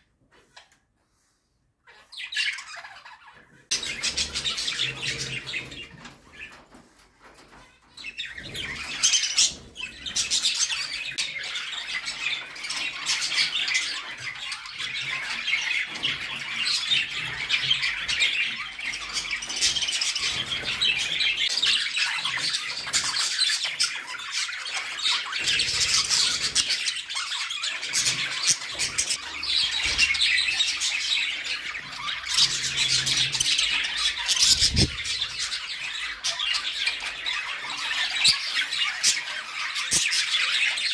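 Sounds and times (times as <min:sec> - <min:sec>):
budgerigars chattering and warbling: 0:01.9 - 0:06.6, 0:08.0 - 0:40.9.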